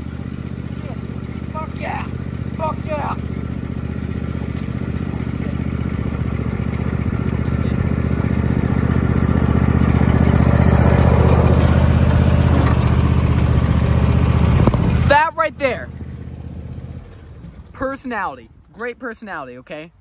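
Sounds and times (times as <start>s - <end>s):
riding lawn mower engine running: 0.0s - 19.1s.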